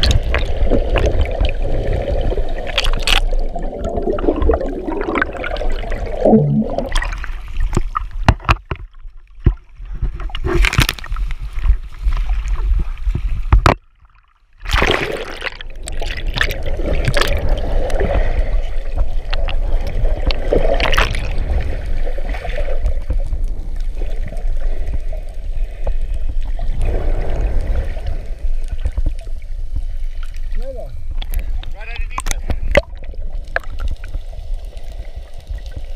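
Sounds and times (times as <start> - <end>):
muffled underwater rush: 0.0 - 13.8, 14.5 - 35.9
water churning and bubbling: 0.0 - 35.9.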